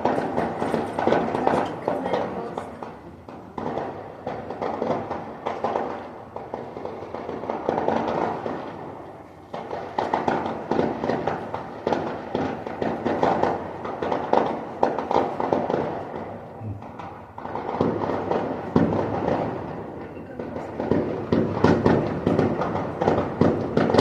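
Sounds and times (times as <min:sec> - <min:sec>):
fireworks crackling pops: 0:00.0 - 0:24.0.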